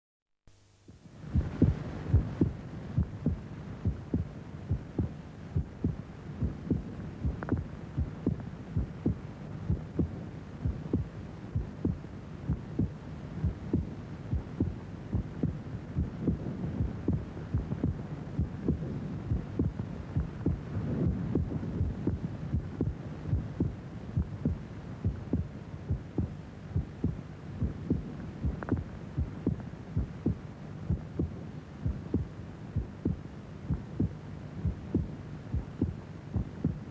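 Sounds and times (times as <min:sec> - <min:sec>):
low hum: 0:00.5 - 0:36.9
heartbeat: 0:00.9 - 0:36.9.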